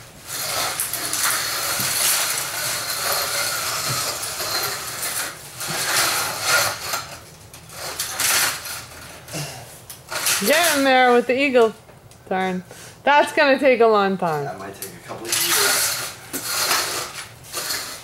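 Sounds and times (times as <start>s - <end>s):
wheels rolling on concrete: 0.0s - 11.8s, 14.8s - 18.0s.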